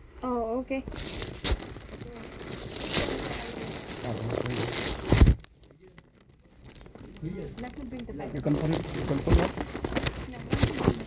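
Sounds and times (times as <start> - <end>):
plastic or paper rustling: 0.8 - 11.0.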